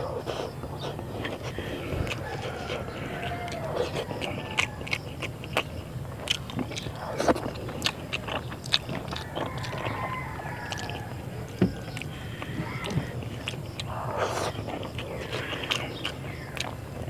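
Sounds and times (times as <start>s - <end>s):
person chewing with lip smacks: 0.2s - 17.0s.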